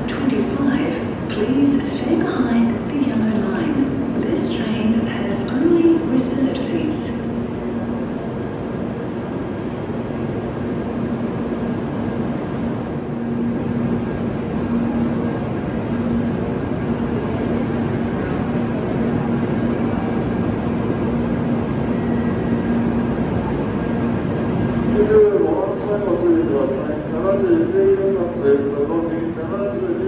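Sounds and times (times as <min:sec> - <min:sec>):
train rumbling at platform: 0:00.0 - 0:30.0.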